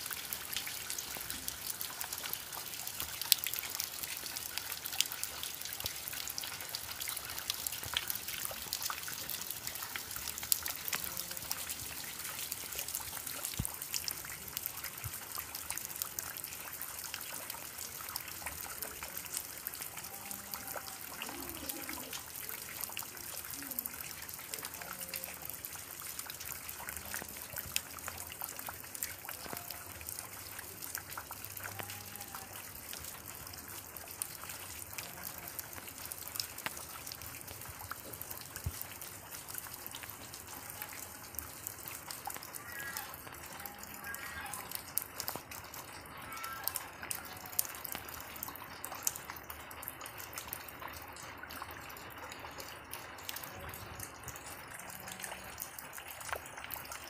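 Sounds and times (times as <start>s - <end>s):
water drops splashing into water: 0.1s - 57.0s.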